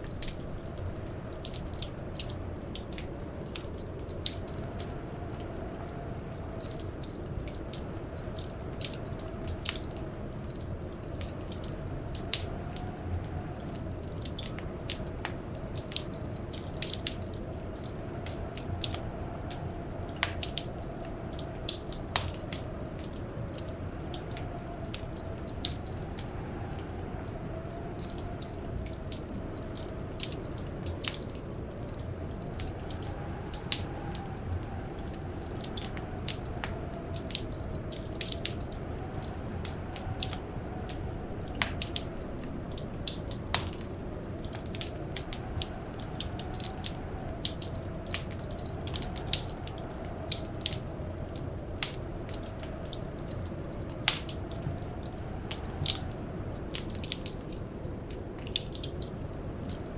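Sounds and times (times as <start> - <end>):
faint wind howling: 0.0 - 59.9
wood fire crackling and popping: 0.0 - 59.9.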